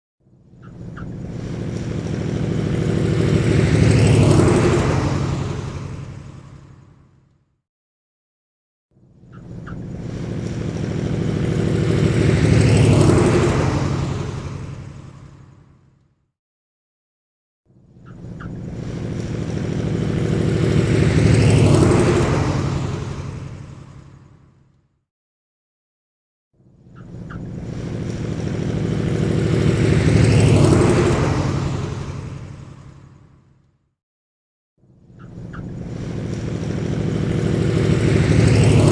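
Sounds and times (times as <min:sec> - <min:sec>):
propeller aircraft flying past: 0:00.4 - 0:07.4, 0:09.0 - 0:16.2, 0:17.7 - 0:24.8, 0:26.9 - 0:33.8, 0:35.1 - 0:38.9.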